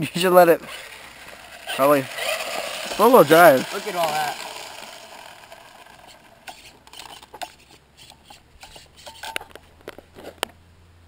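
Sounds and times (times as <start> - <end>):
rc truck clicks and rattles: 0.2 - 10.6.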